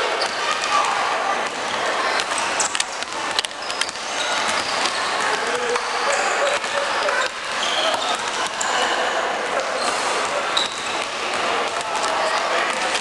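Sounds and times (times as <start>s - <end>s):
sneaker squeaks: 0.0s - 0.9s, 1.5s - 13.0s
basketballs bouncing on wooden floor: 0.2s - 8.8s, 9.8s - 13.0s.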